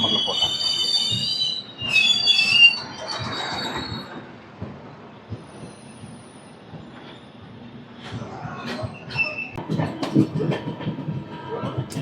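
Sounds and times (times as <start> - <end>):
train wheels squealing on rails: 0.0 - 9.6
train running noise: 0.0 - 12.0.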